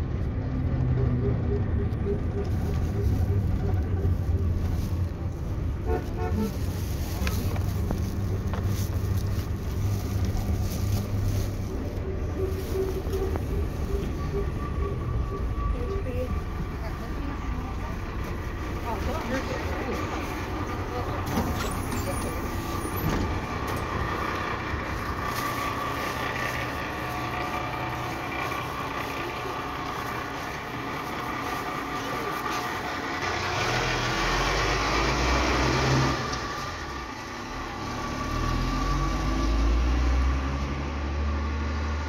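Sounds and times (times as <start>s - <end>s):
minibus engine hum: 0.0s - 42.0s
street noise: 0.0s - 42.0s.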